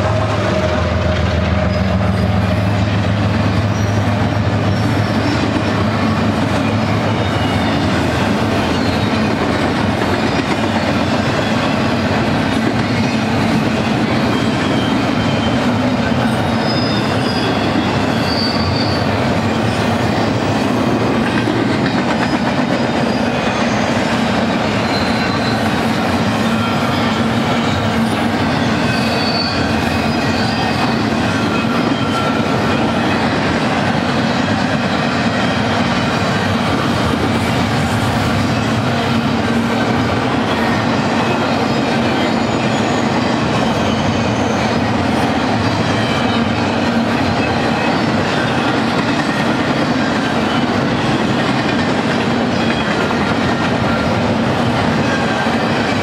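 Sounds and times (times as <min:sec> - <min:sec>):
diesel locomotive engine drone: 0:00.0 - 0:56.0
freight train wheels rumbling: 0:00.0 - 0:56.0
high wheel squeals: 0:00.5 - 0:56.0.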